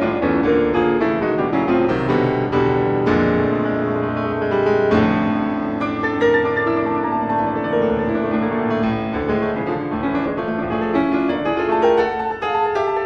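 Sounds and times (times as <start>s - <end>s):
background piano music: 0.0s - 13.0s.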